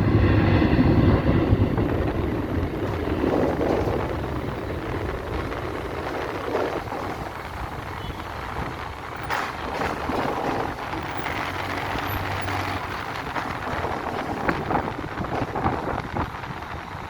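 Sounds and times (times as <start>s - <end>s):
cars and trucks passing: 0.0s - 17.0s.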